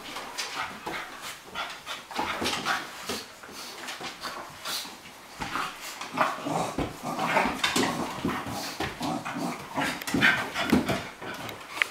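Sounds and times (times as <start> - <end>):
bodies and paws on wooden floor: 0.0 - 11.9.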